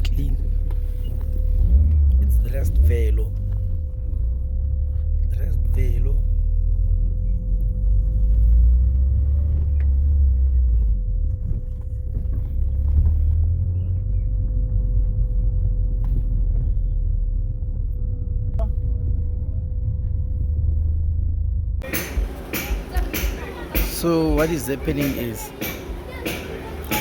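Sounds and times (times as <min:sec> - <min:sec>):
car rumbling on the move: 0:00.0 - 0:27.0.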